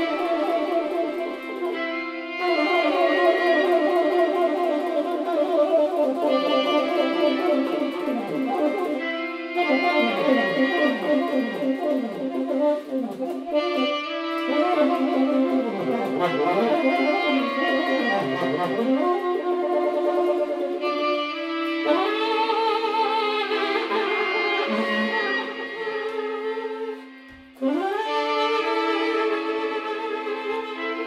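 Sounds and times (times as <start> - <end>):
saxophone with bending pitches: 0.0 - 31.0.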